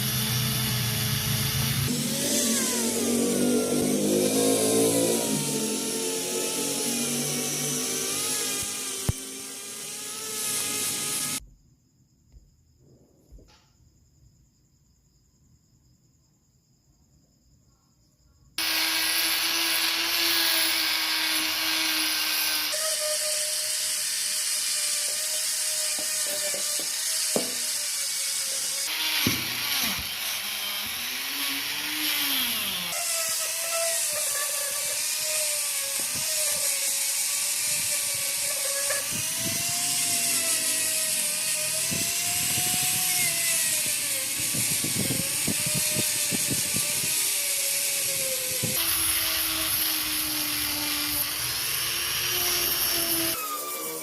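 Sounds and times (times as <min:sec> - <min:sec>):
power tool grinding metal: 0:00.0 - 0:11.4, 0:18.6 - 0:54.0.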